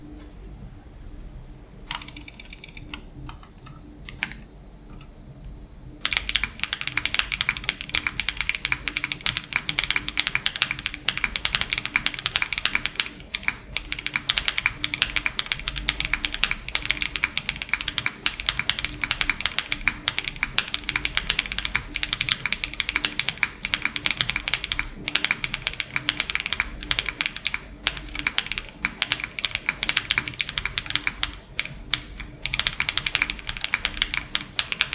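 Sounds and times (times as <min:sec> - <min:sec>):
mechanical keyboard typing: 0:01.9 - 0:05.2, 0:06.0 - 0:34.9.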